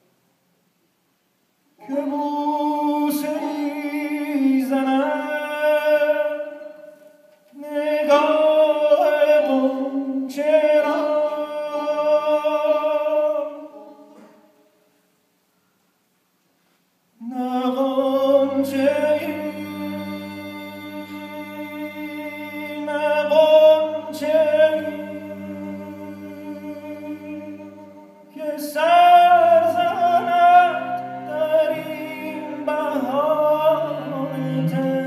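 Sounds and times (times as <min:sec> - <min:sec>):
man singing unaccompanied: 0:01.8 - 0:14.2, 0:17.2 - 0:35.0.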